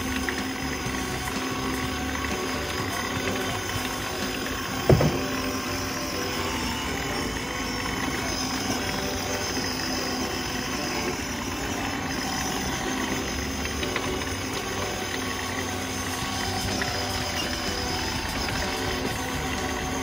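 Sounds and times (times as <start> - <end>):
background music: 0.0 - 20.0
toy car electric motors whirring: 0.0 - 20.0
wheels rolling on concrete: 0.0 - 20.0.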